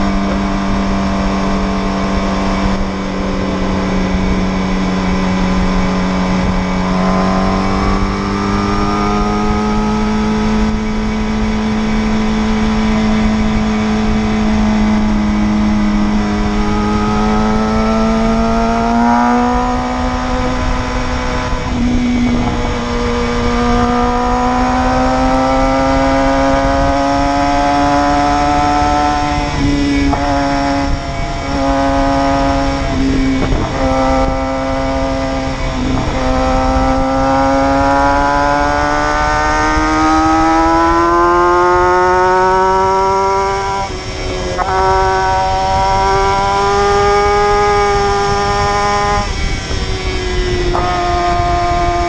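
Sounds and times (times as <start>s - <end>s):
motorcycle engine running hard: 0.0s - 52.0s
wind rush: 0.0s - 52.0s.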